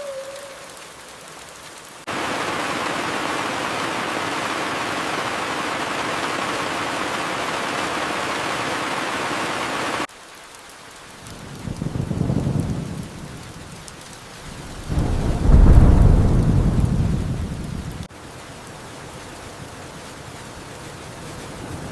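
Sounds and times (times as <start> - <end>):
light rain hiss: 0.0 - 21.9.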